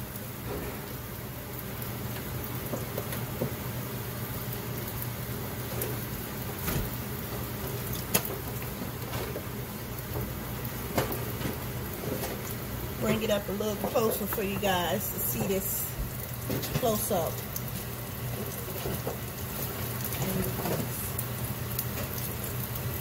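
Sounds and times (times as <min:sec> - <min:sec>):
vegetables sizzling on a griddle: 0:00.0 - 0:23.0
oil popping: 0:00.2 - 0:23.0.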